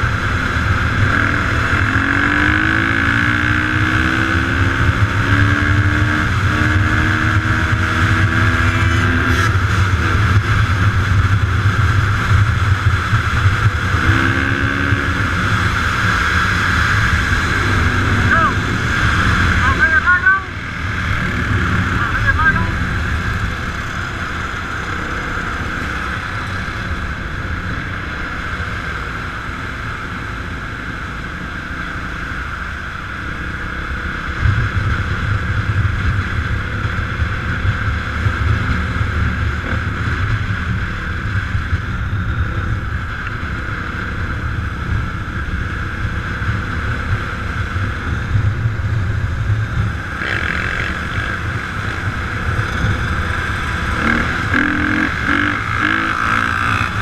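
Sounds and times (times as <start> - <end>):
deep engine rumble: 0.0 - 57.0
vehicle engine running: 0.0 - 57.0.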